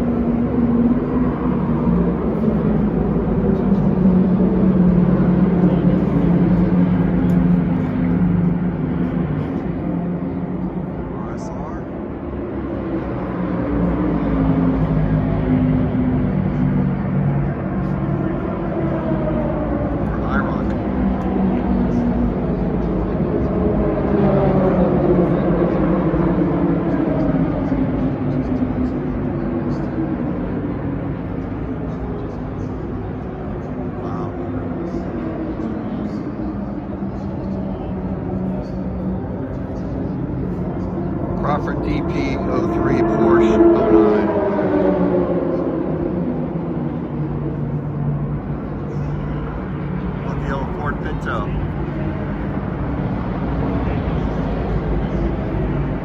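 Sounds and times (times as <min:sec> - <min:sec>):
busy crowd noise: 0:00.0 - 0:56.0
engines droning: 0:00.0 - 0:56.0.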